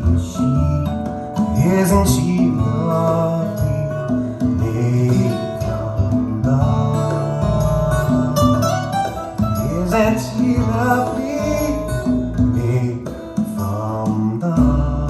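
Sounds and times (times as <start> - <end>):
instrumental pop-soul music: 0.0 - 15.0.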